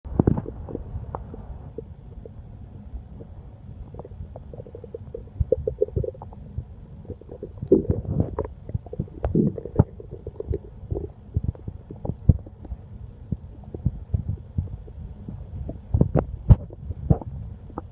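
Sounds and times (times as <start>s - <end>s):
stomach growling: 0.1s - 2.4s, 3.2s - 17.9s.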